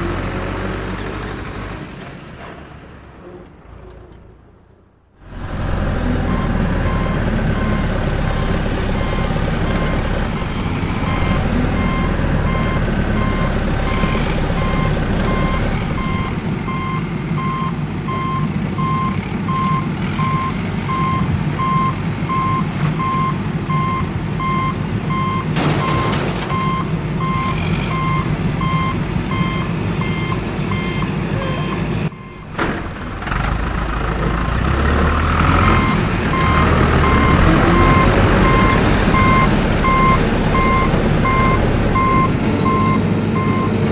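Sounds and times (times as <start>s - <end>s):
heavy vehicle engine rumble: 0.0s - 43.9s
reversing alarm beeping: 5.6s - 32.5s, 35.5s - 43.8s.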